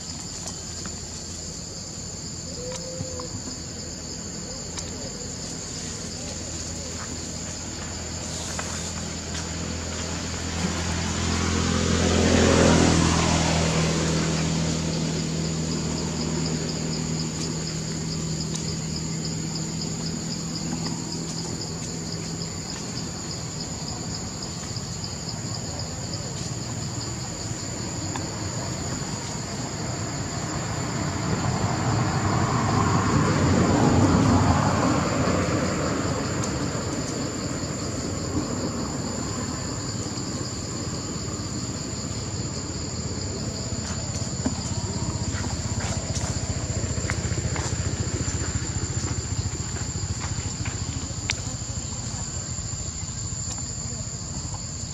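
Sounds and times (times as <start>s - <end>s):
insects chirring: 0.0s - 54.9s
motor vehicle passing: 5.4s - 25.8s, 26.4s - 54.6s.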